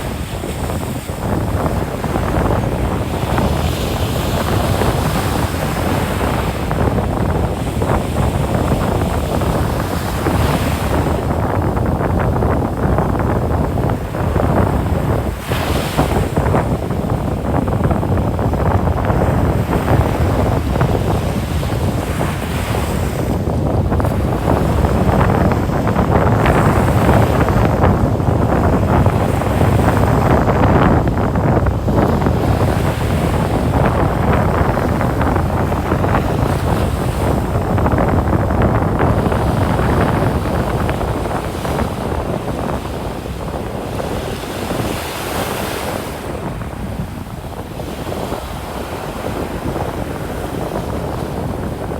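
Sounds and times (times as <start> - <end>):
ocean waves washing onto beach: 0.0 - 51.9
wind buffeting microphone: 0.0 - 51.9.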